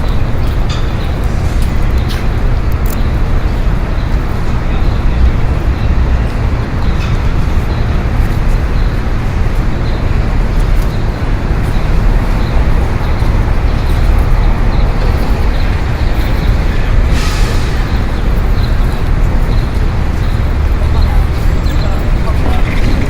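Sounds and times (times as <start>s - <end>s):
dense city traffic: 0.0s - 23.0s.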